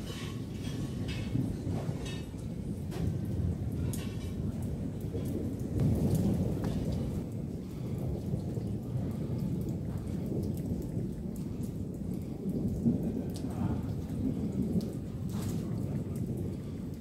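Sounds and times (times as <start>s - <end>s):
raindrops ticking on phone: 0.0s - 17.0s
steady rain: 0.0s - 17.0s
thunder rumbling: 0.0s - 17.0s.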